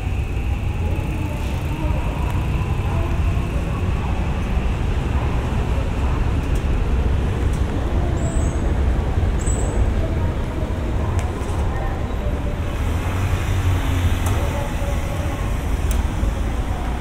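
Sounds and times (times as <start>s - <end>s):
electric train rumbling overhead: 0.0s - 17.0s.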